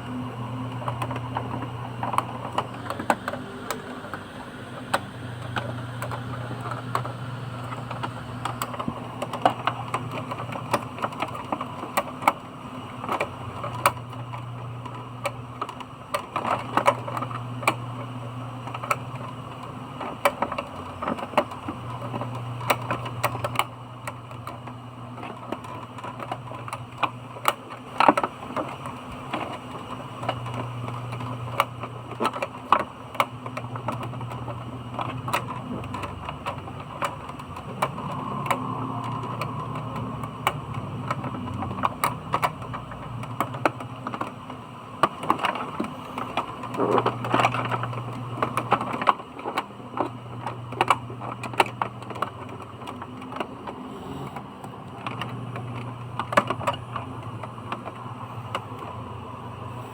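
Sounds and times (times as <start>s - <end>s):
plastic parts and tools clicking: 0.0s - 59.6s.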